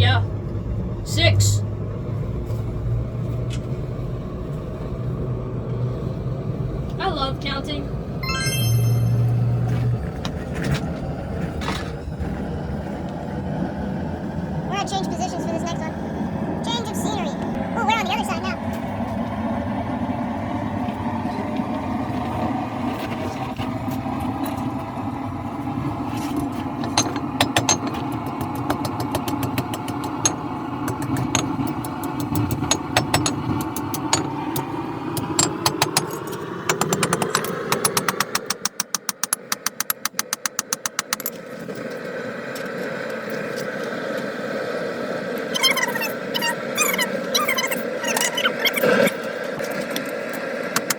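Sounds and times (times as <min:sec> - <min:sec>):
forge burner roaring: 0:00.0 - 0:08.2, 0:09.4 - 0:38.4, 0:40.1 - 0:50.9.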